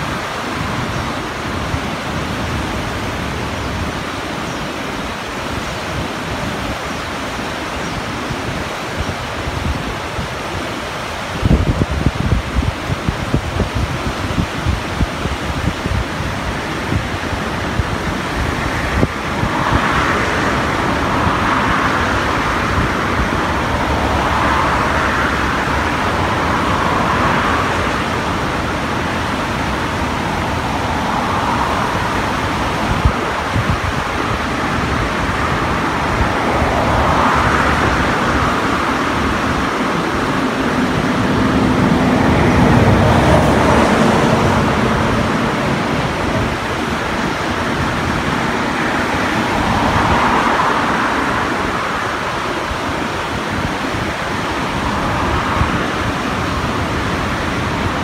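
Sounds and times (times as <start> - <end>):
river rushing: 0.0 - 58.0
wind buffeting microphone: 0.0 - 58.0.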